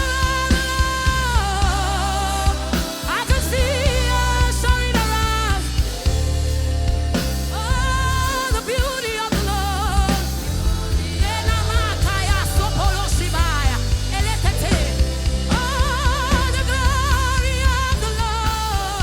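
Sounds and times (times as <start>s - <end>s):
gospel band with bass and drums: 0.0s - 19.0s
woman singing: 0.0s - 19.0s.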